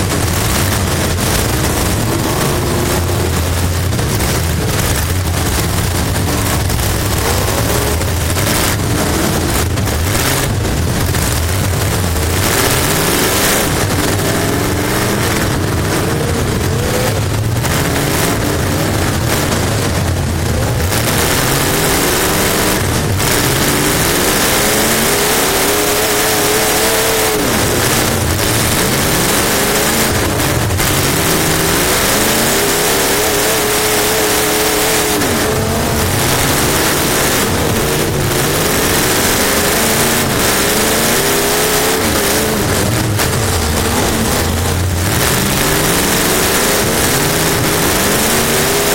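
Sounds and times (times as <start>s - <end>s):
race car engine revving: 0.0s - 48.9s
wind and track noise: 0.0s - 48.9s.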